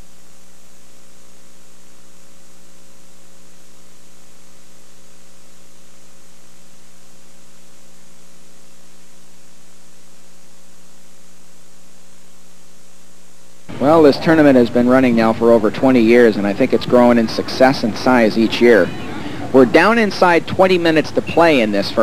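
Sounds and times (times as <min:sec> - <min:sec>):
electrical hum: 0:00.0 - 0:22.0
recording hiss: 0:00.0 - 0:22.0.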